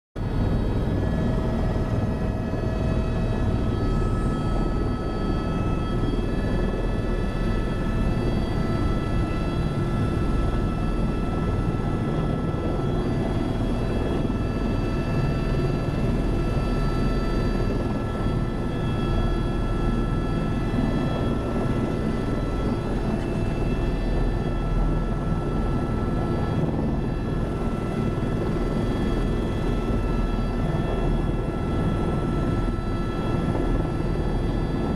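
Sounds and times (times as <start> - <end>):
helicopter rotor and engine rumble: 0.2 - 34.9.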